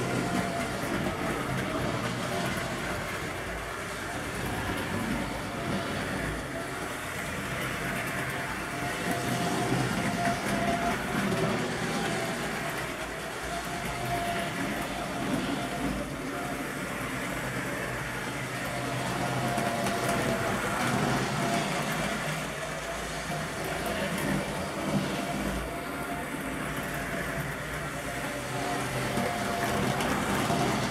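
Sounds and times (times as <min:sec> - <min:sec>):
model trains running on track: 0:00.0 - 0:30.9.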